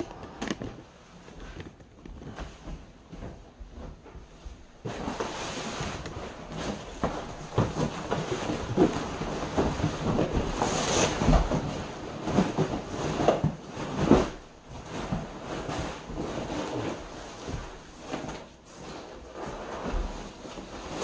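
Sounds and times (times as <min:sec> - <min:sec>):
furniture knocks and bumps: 0:00.0 - 0:21.0
plastic sheet rustling and crinkling: 0:00.0 - 0:21.0.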